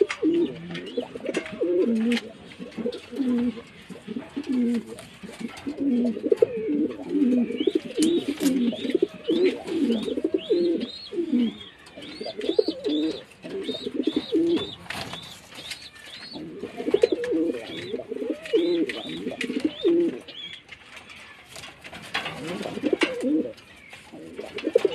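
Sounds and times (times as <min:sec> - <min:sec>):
pigeons cooing: 0:00.0 - 0:20.6, 0:22.1 - 0:24.9.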